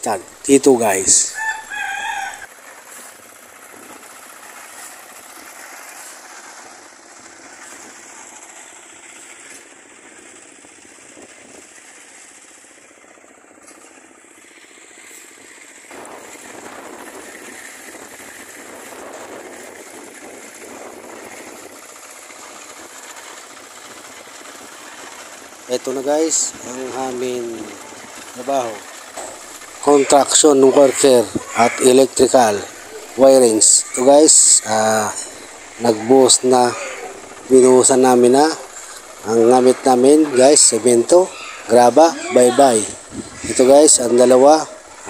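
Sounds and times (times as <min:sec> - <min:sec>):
concrete mixer engine knocking: 0:00.0 - 0:45.0.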